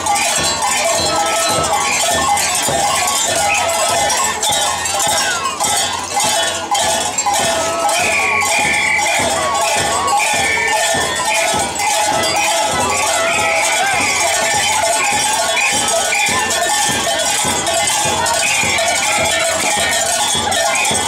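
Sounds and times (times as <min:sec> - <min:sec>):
crowd voices: 0:00.0 - 0:21.0
small bells ringing: 0:00.0 - 0:21.0.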